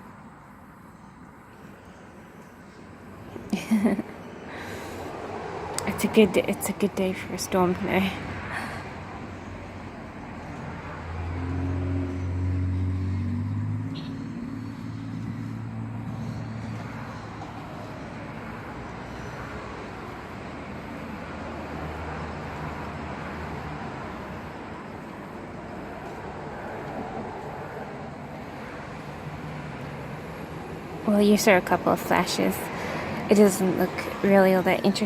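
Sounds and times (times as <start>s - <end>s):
traffic hum: 0.0s - 35.0s
vehicle engine passing by: 4.8s - 35.0s.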